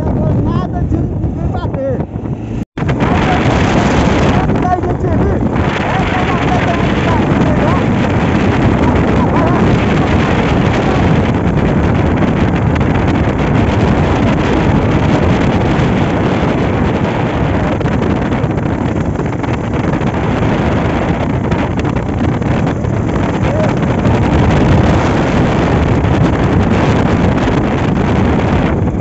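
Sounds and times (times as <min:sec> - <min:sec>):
wind noise on microphone: 0:00.0 - 0:29.0.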